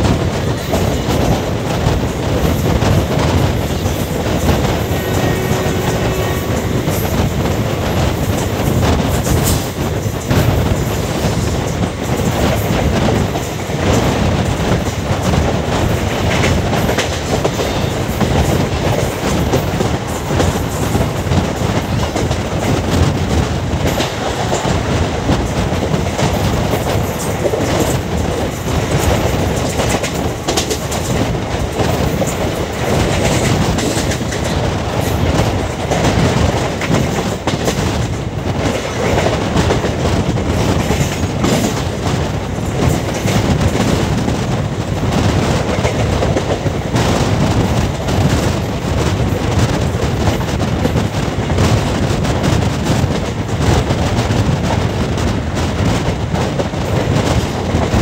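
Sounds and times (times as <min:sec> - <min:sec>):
train coaches rumbling and rattling: 0:00.0 - 0:58.0
wheels clacking over rail joints: 0:00.0 - 0:58.0.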